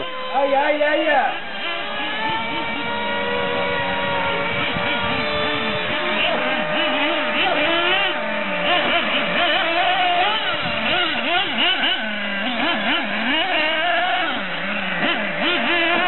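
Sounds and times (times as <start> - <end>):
rc car motors swooping: 0.0 - 16.0
steady held tone: 0.0 - 16.0.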